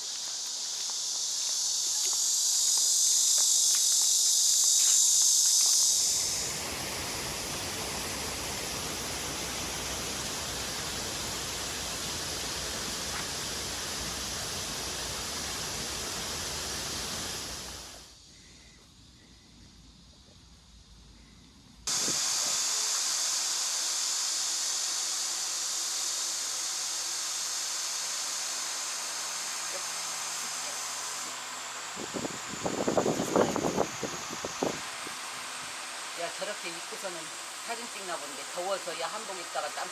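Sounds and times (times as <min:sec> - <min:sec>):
cicadas buzzing loudly: 0:00.0 - 0:39.9.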